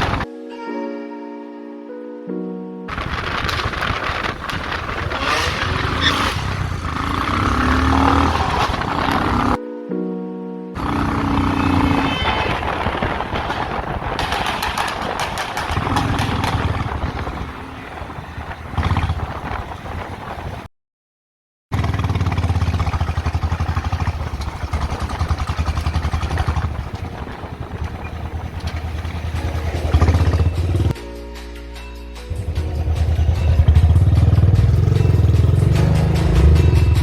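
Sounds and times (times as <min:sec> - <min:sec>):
motorcycle engine revving: 0:00.0 - 0:00.2, 0:02.9 - 0:09.6, 0:10.8 - 0:20.7, 0:21.7 - 0:31.0, 0:32.3 - 0:37.0.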